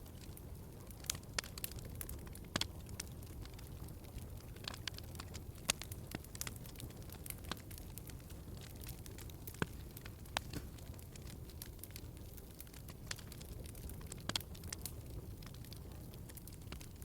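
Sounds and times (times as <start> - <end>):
log fire crackling: 0.0 - 17.0
low rumble of flames: 0.0 - 17.0.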